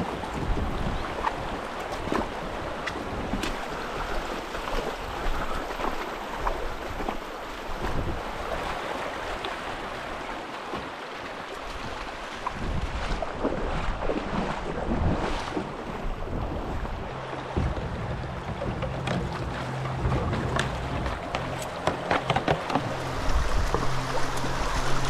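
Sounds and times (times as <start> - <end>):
wind buffeting microphone: 0.0 - 8.8, 11.8 - 25.0
boots wading through water: 0.0 - 25.0
creek water rushing over rocks: 0.0 - 25.0.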